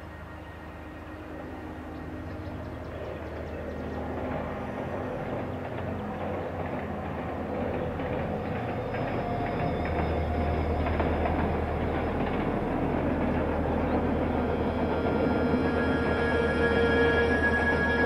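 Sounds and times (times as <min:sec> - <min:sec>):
diesel locomotive engine straining: 0:00.0 - 0:18.0.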